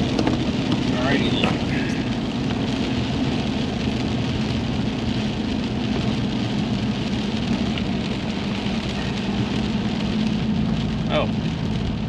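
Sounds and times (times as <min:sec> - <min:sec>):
heavy rain: 0:00.0 - 0:12.0
vehicle engine humming: 0:00.0 - 0:12.0.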